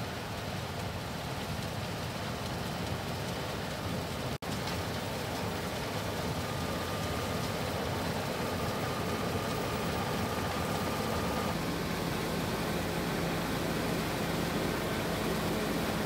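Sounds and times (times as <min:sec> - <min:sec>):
broad rushing noise: 0:00.0 - 0:16.0
combine harvester engine hum: 0:00.1 - 0:16.0.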